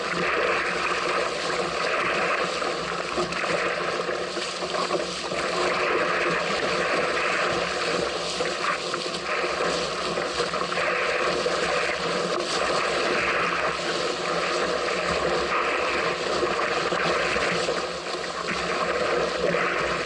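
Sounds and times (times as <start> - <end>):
water rushing along boat hull: 0.0 - 20.0.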